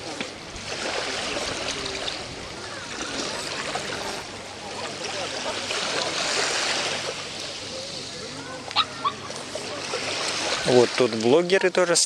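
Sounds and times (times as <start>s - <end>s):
faint distant voices: 0.0s - 12.0s
small waves lapping on sand: 0.0s - 12.0s.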